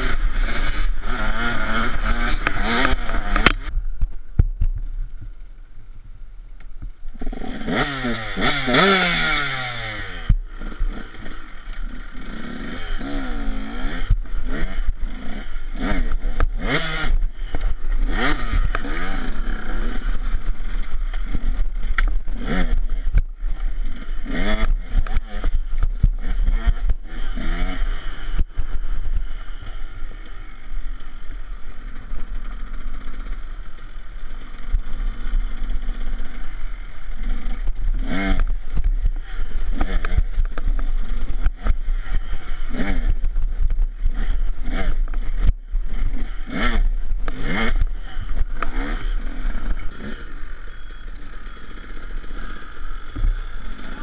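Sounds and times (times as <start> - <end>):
dirt bike engine revving: 0.0 - 3.9, 7.1 - 54.0.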